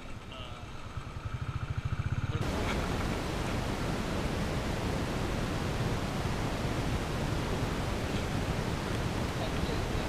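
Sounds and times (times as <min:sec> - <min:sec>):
wind buffeting microphone: 0:01.1 - 0:10.0.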